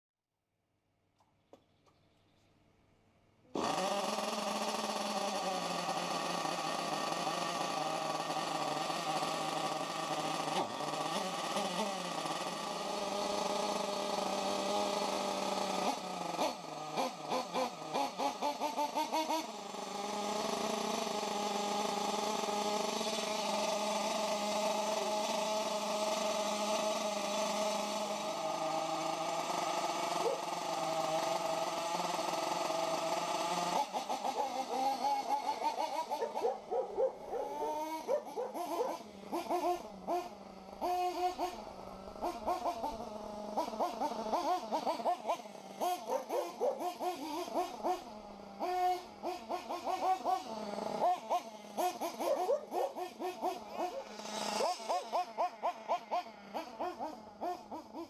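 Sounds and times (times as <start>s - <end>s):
small engine high-pitched: 3.4s - 58.0s
quick throttle blips: 3.5s - 58.0s.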